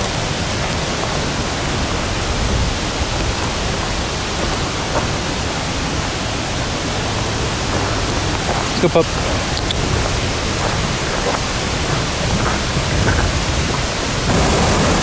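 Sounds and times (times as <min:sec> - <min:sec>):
rushing falling water: 0:00.0 - 0:15.0.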